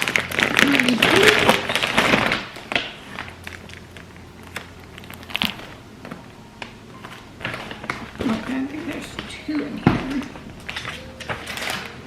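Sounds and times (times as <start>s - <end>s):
packaging rustling: 0.0s - 12.0s
wrapping crackling and clicking: 0.0s - 12.0s.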